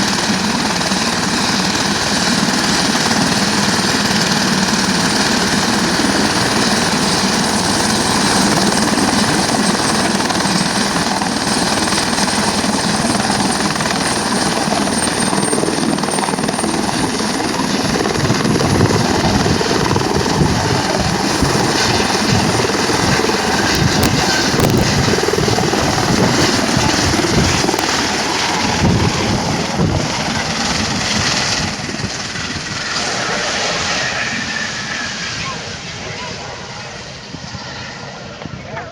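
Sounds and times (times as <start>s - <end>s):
helicopter rotor beat: 0.0s - 38.9s
helicopter turbine whine: 0.0s - 38.9s.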